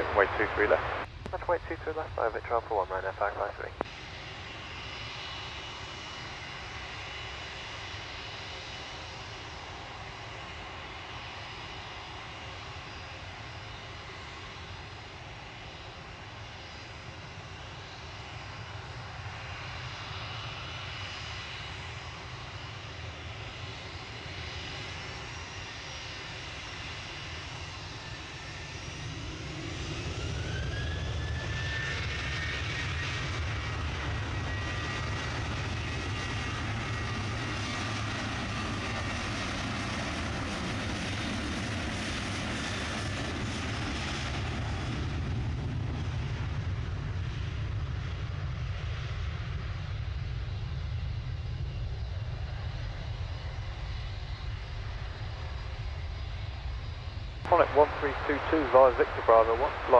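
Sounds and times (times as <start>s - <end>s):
airliner engines whining and rumbling: 0.0s - 59.9s.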